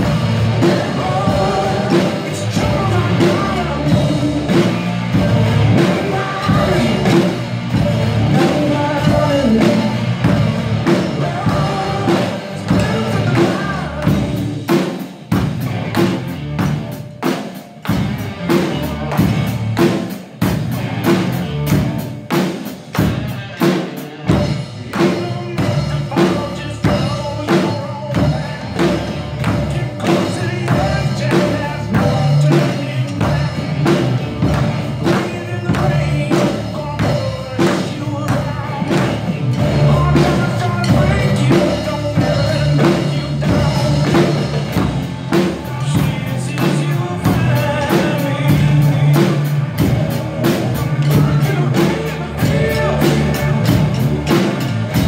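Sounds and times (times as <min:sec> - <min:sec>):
drum kit playing a steady beat: 0:00.0 - 0:55.0
recorded backing song: 0:00.0 - 0:55.0.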